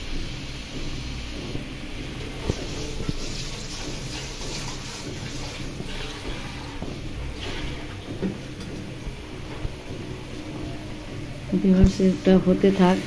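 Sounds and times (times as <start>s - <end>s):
broth boiling and bubbling: 0.0s - 13.0s.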